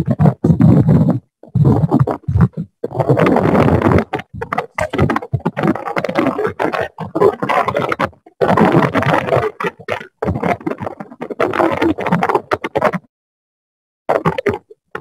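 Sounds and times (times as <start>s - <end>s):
microphone crackle: 0.0s - 12.9s.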